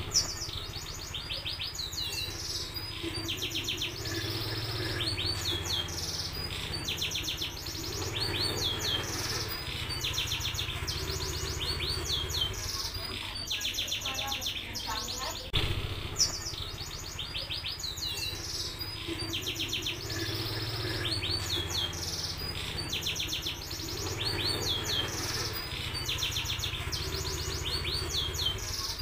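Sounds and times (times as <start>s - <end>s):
canary singing: 0.0s - 29.0s
low background hum: 0.0s - 29.0s.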